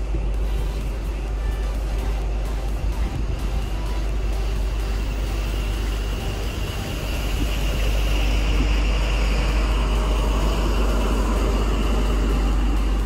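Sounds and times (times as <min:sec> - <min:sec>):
train diesel engine droning: 0:00.0 - 0:13.0.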